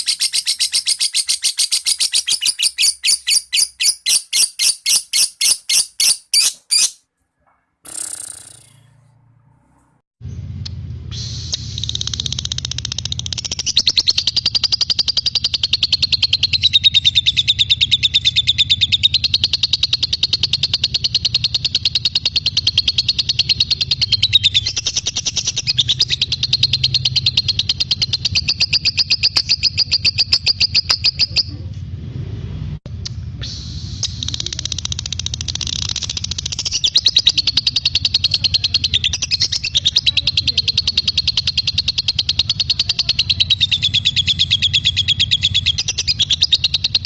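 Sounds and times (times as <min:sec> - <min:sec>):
lovebird chattering trill: 0:00.0 - 0:07.0, 0:07.9 - 0:09.0, 0:11.1 - 0:31.5, 0:33.9 - 0:47.0
steady low hum: 0:07.9 - 0:47.0.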